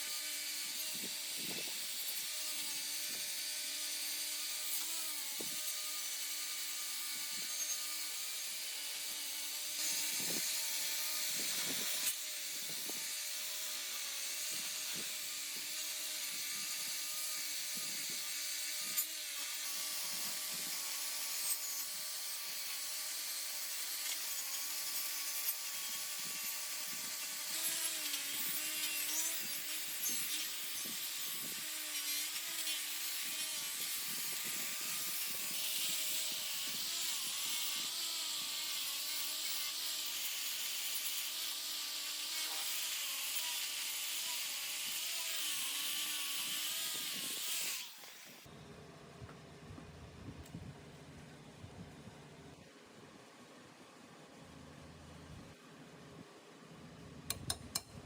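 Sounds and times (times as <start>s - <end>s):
power tool motor humming: 0.0s - 48.5s.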